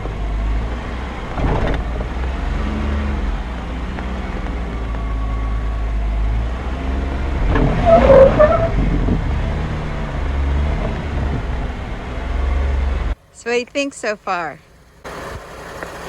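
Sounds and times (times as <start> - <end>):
engine running at low revs: 0.0 - 13.3.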